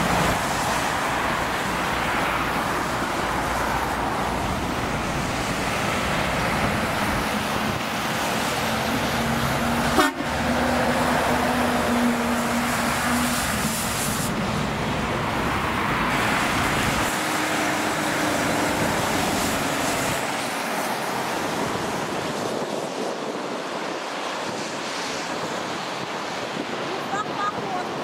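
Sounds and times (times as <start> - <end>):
motorway traffic rushing: 0.0 - 28.0.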